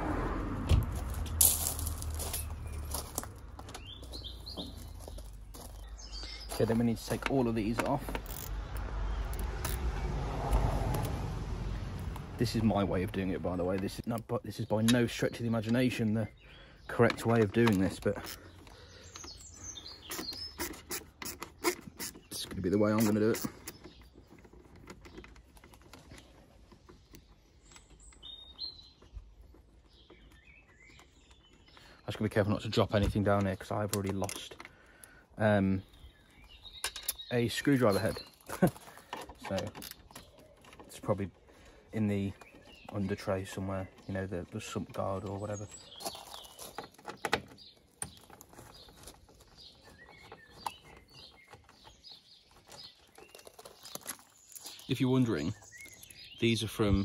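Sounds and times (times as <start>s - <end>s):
bird chirps: 1.6s - 10.2s, 14.8s - 24.4s, 27.0s - 32.6s, 34.9s - 57.0s.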